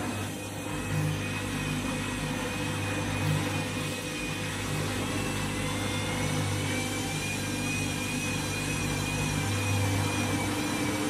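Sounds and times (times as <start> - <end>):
motor low hum: 0.0 - 11.0.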